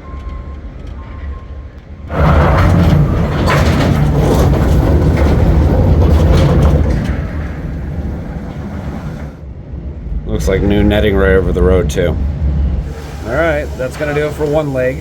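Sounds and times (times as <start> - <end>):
cable car rumbling clatter: 0.0 - 15.0.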